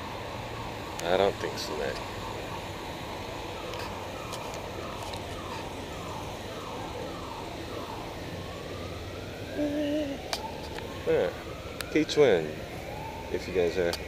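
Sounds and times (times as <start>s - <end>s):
emergency vehicle siren: 0.0s - 14.0s
street traffic noise: 0.0s - 14.0s.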